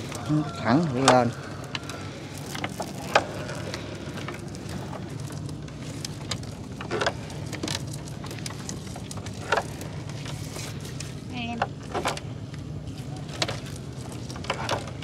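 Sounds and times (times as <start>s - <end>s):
net hauled into wooden boat: 0.0s - 12.4s
low motor hum: 0.0s - 15.0s.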